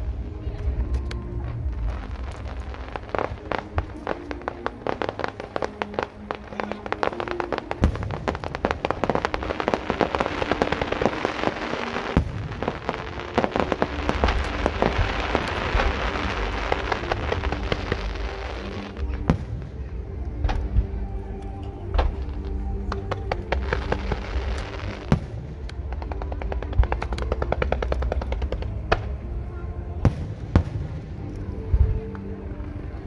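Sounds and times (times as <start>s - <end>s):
fireworks crackling and popping: 0.0s - 29.4s, 30.0s - 33.0s
faint music: 0.0s - 33.0s.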